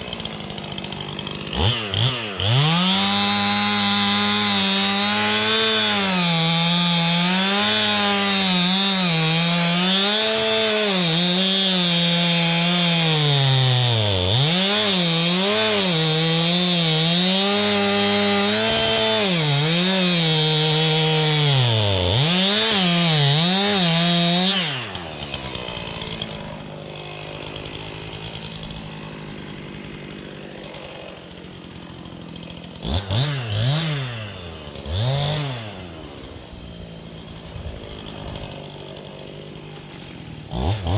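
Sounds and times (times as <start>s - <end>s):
chainsaw cutting tree trunk: 0.0s - 40.9s.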